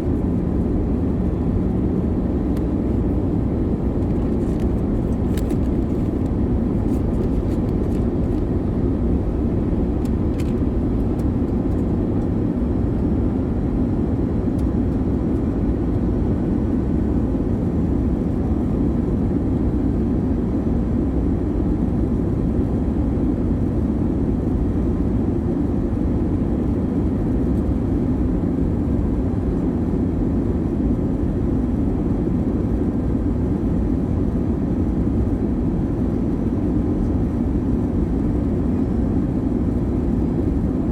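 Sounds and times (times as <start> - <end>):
airliner cabin engine rush: 0.0 - 40.9.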